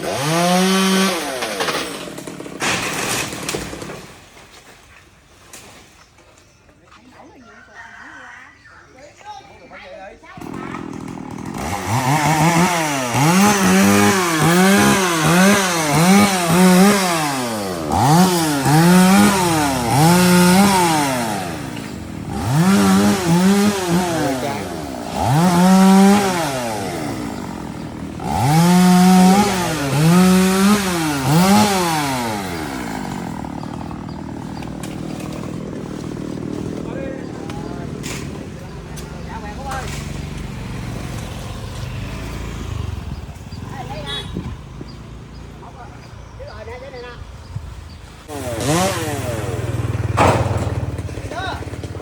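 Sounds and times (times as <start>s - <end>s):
two-stroke chainsaw revving: 0.0s - 4.1s, 10.4s - 46.1s, 48.2s - 52.0s.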